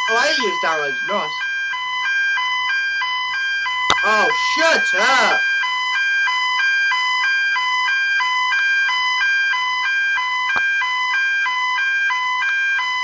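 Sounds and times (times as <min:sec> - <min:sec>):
fire alarm two-tone warble: 0:00.0 - 0:13.0.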